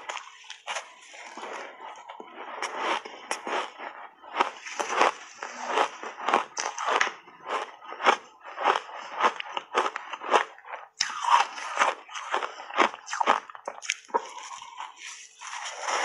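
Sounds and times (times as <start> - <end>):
ice crunching while chewed: 0.0 - 16.0.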